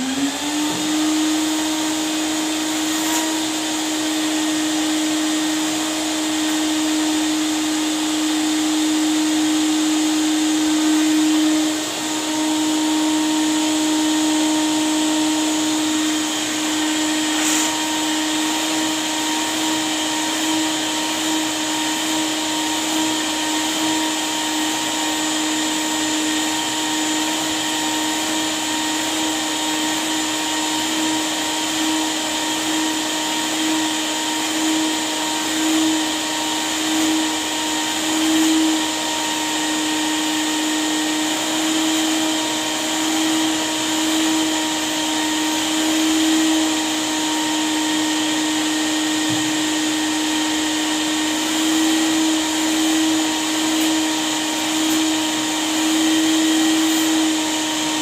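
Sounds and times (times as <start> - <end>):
vacuum cleaner motor humming: 0.0 - 58.0.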